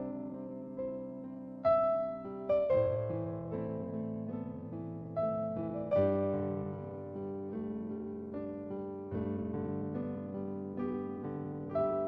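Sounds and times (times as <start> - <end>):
slow piano notes: 0.0 - 12.0.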